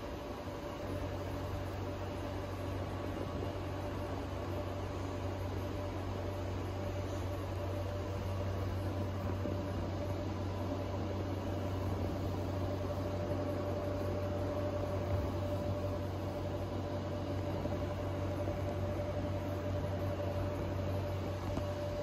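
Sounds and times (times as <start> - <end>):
faint steady whine: 0.0 - 22.0
ventilation hum and hiss: 0.0 - 22.0.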